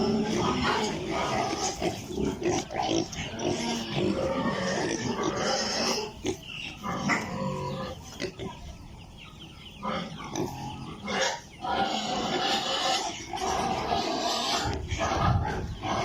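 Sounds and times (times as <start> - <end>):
piglets calling: 0.0 - 16.0.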